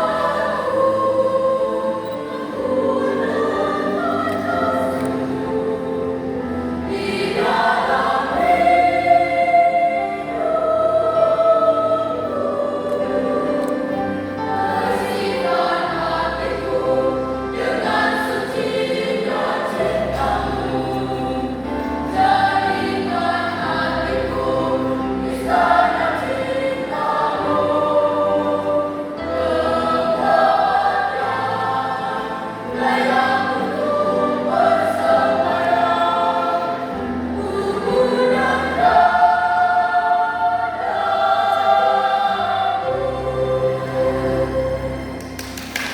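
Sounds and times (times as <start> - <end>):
choir singing in parts: 0.0 - 45.9.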